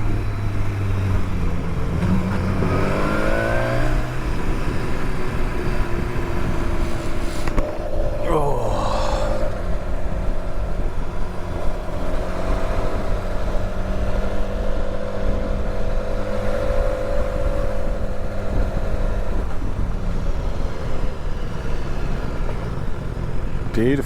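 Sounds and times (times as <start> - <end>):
motorcycle engine: 0.0 - 24.0
wind and road noise: 0.0 - 24.0.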